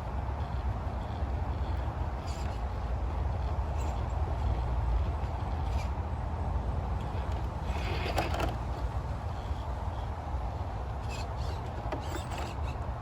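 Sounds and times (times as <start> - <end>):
low rumble of rc crawler: 0.0 - 13.0.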